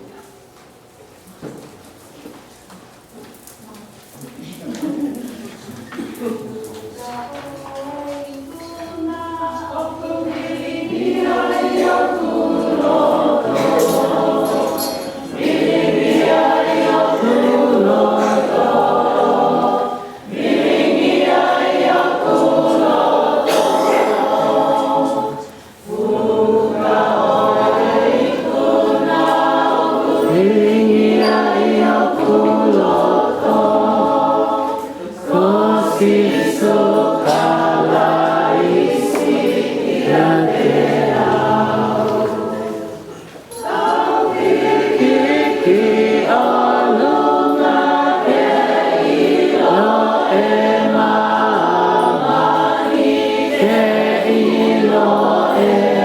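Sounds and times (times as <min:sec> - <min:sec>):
gospel group singing in harmony: 0:05.3 - 0:56.0.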